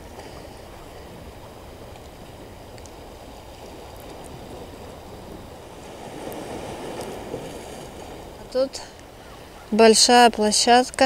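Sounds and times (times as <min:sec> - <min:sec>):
waves washing against rocks: 0:00.0 - 0:11.0.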